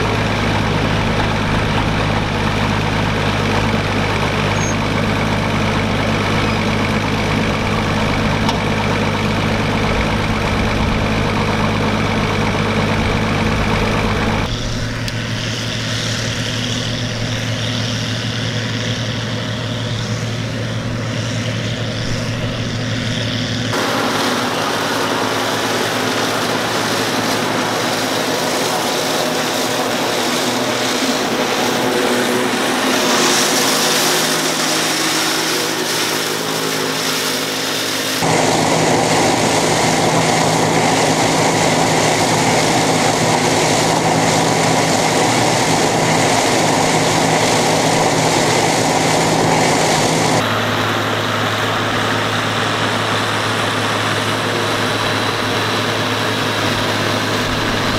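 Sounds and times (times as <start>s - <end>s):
forage harvester chopping corn: 0.0s - 57.9s
tractor engine running under load: 0.0s - 57.9s.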